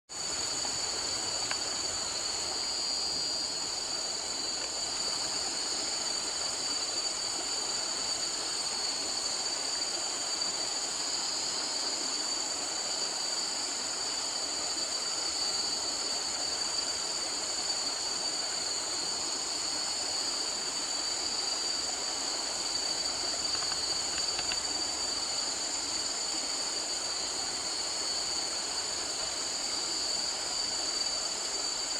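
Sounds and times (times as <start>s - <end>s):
rushing hiss: 0.1s - 31.9s.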